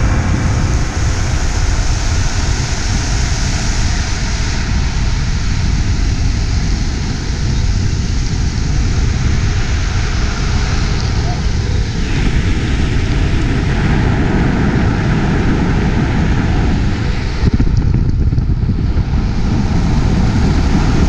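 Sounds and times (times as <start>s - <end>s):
skateboard wheels rolling on asphalt: 0.0s - 21.0s
wind buffeting microphone: 0.0s - 21.0s.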